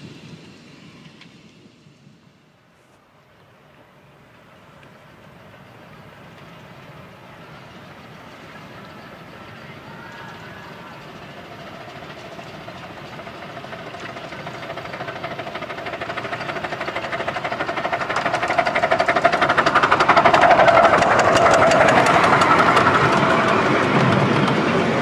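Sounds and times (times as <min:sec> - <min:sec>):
train coaches running past: 0:00.0 - 0:25.0
steam locomotive exhaust chuffing: 0:03.6 - 0:25.0.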